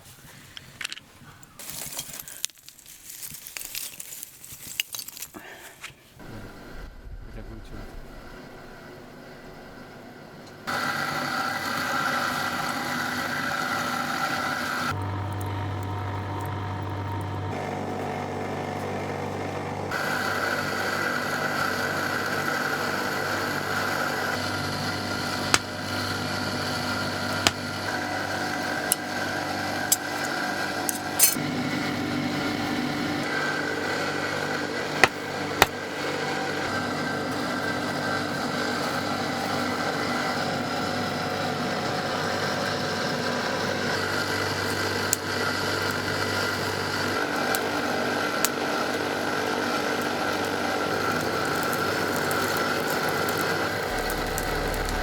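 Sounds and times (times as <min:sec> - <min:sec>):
small motor humming: 0:09.4 - 0:55.0.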